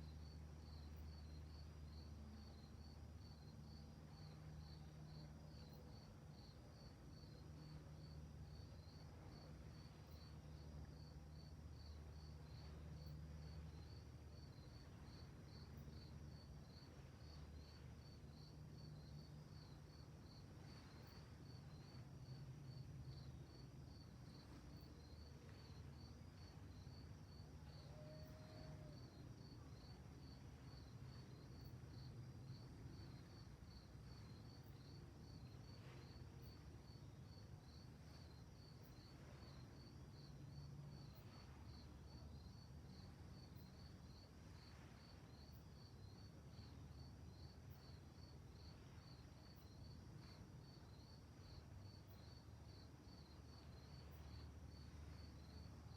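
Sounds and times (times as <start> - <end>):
faint crickets chirping: 0.0 - 55.9.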